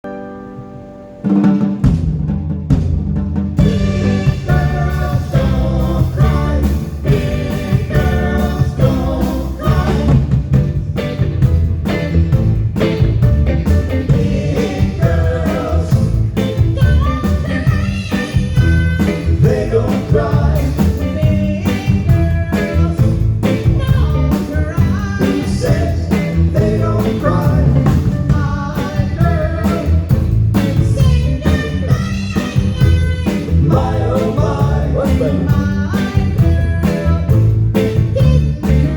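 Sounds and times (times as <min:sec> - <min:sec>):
bass and drum beat: 0:01.3 - 0:38.9
person singing: 0:03.6 - 0:10.4, 0:14.1 - 0:38.9.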